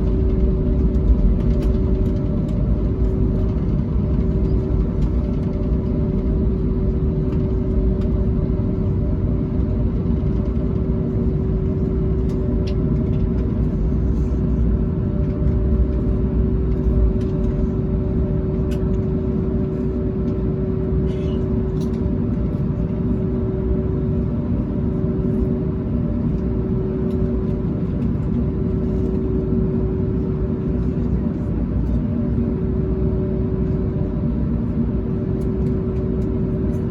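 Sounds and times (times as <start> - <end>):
airliner cabin rumble and hum: 0.0 - 36.9.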